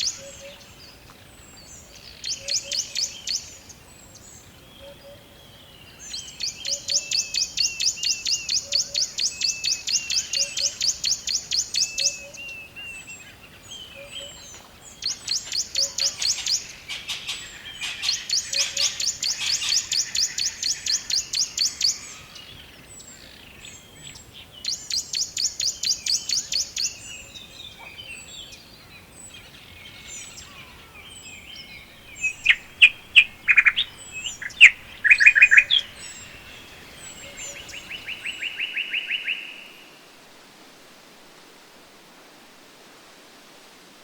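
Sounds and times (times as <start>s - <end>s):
songbirds trilling and chirping: 0.0s - 40.1s
faint steady hiss: 0.0s - 44.0s.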